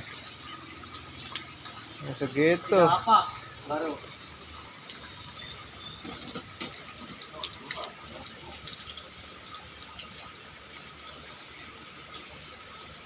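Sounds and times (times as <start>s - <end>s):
small splashes: 0.0s - 13.0s
water trickling and dripping: 0.0s - 13.0s.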